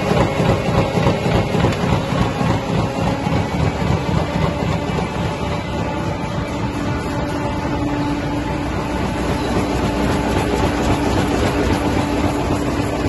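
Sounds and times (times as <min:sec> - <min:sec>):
constant machine hum: 0:00.0 - 0:13.0
mechanical din of rollers and belts: 0:00.0 - 0:13.0.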